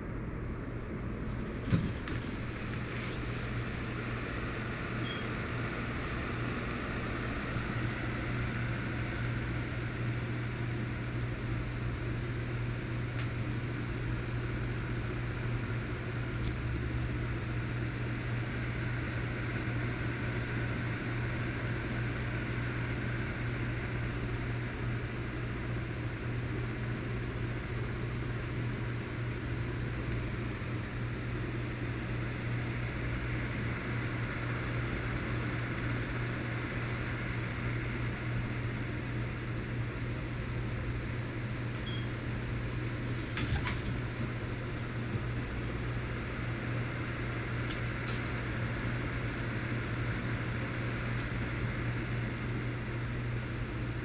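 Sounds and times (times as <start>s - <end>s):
electric fan humming: 0.0s - 54.0s.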